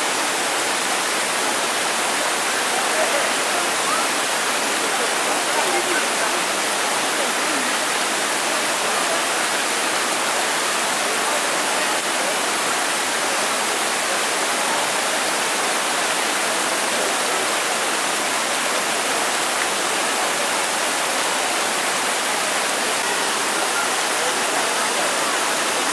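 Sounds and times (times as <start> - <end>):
stream rushing over boulders: 0.0 - 25.9.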